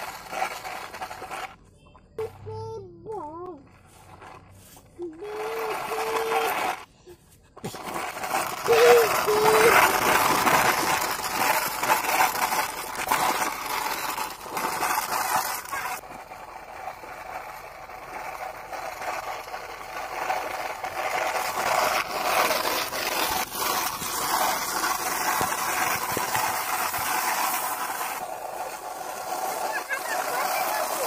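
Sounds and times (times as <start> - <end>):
toy truck wheels scraping on dirt: 0.0 - 31.0
stones rattling in toy tipper: 4.0 - 6.9, 7.6 - 31.0.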